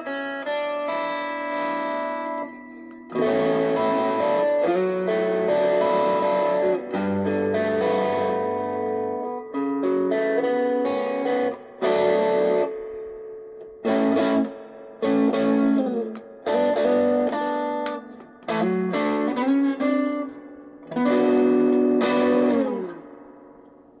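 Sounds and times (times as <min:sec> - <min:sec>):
electric guitar playing chords: 0:00.0 - 0:24.0.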